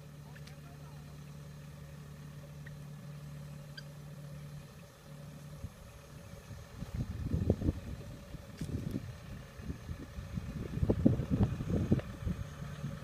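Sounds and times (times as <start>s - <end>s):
distant tractor engine humming: 0.0s - 13.0s
irregular low rumble: 0.0s - 13.0s.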